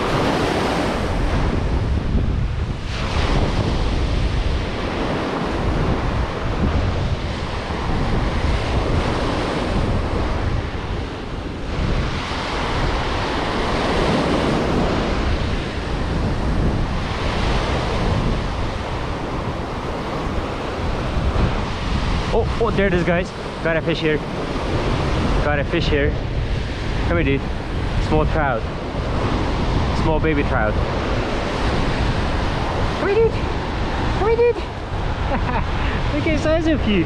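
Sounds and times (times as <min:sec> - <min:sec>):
ocean surf breaking on beach: 0:00.0 - 0:37.0
wind buffeting microphone: 0:00.0 - 0:37.0.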